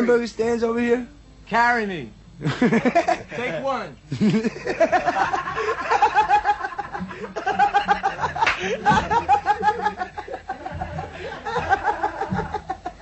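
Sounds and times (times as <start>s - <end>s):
people laughing: 2.4s - 13.0s.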